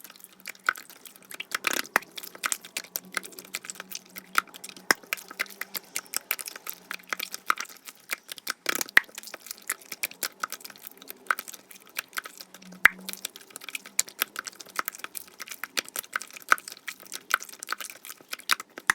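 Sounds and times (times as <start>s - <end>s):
slime squishing with crisp clicks: 0.0s - 18.9s.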